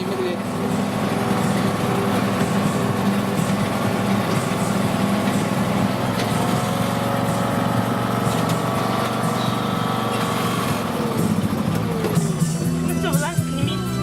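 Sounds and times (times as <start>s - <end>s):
small train engine running: 0.0s - 14.0s.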